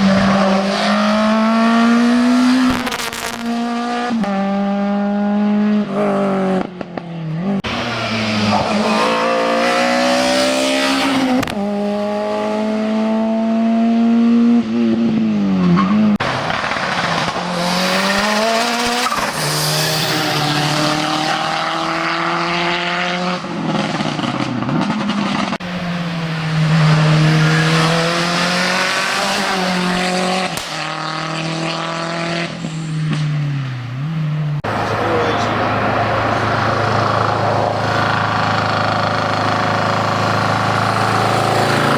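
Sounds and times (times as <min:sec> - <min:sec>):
race car engines at full throttle: 0:00.0 - 0:41.9.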